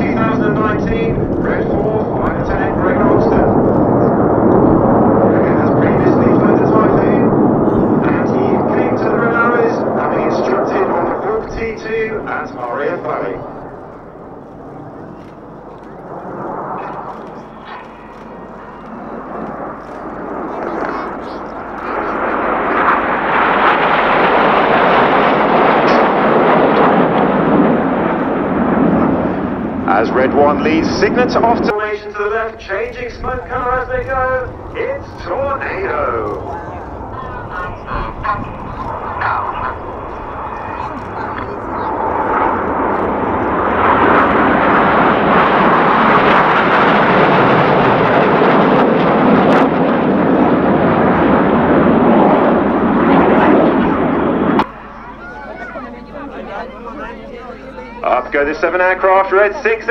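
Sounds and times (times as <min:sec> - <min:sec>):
jets passing overhead: 0:00.0 - 0:59.9.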